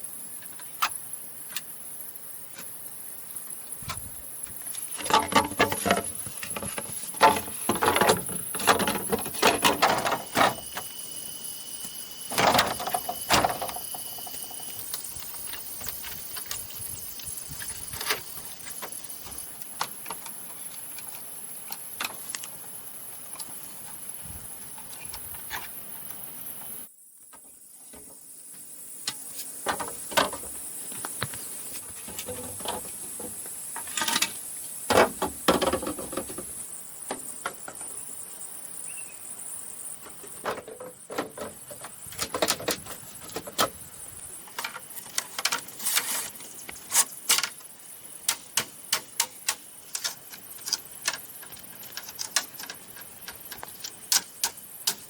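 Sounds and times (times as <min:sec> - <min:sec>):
insects calling: 0:00.0 - 0:55.0.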